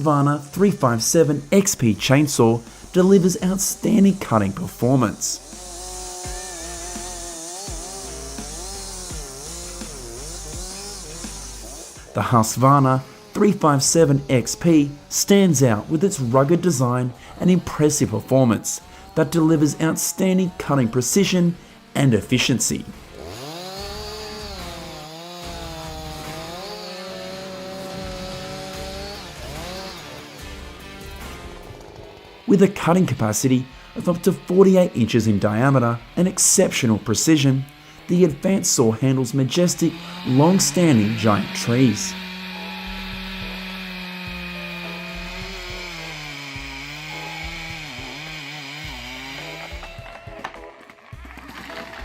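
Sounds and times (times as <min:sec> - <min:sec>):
chainsaw engine at high revs: 0:00.0 - 0:52.0.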